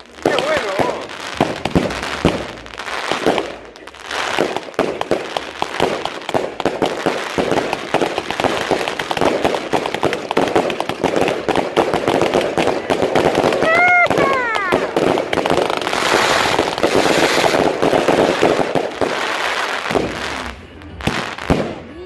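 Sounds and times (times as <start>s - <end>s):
fireworks barrage: 0.0s - 22.0s.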